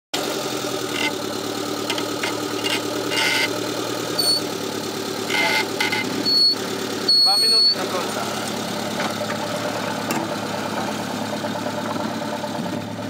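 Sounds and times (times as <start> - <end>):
engine running at low revs: 0.2 - 13.0.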